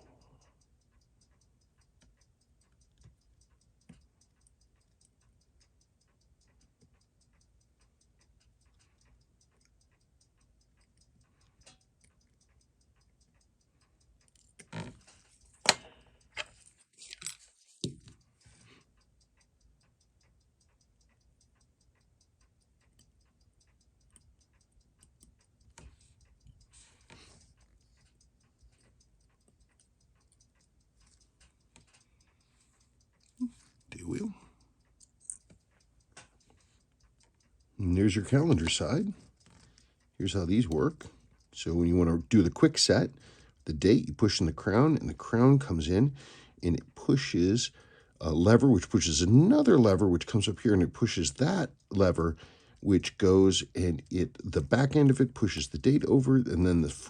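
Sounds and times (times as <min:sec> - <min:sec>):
fast watch ticking: 0:00.0 - 0:17.0, 0:17.6 - 0:57.0.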